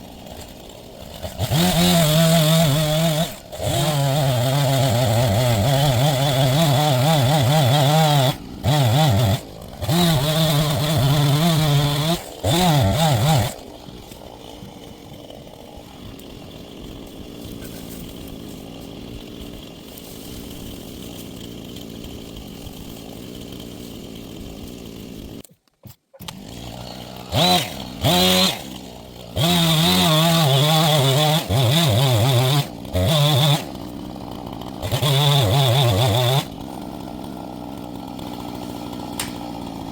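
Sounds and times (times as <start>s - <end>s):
chainsaw cutting a tree: 0.0s - 25.5s, 26.2s - 39.9s.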